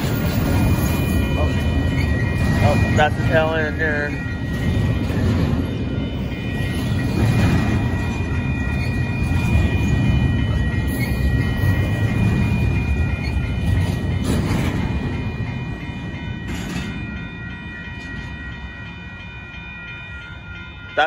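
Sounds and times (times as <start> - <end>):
crossing bell ringing: 0.0 - 21.0
freight train wheels rumbling: 0.0 - 21.0.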